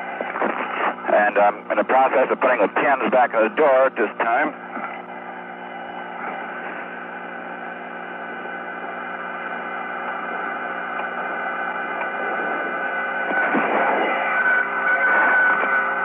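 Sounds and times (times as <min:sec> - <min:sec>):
radio link hum and hiss: 0:00.0 - 0:16.0.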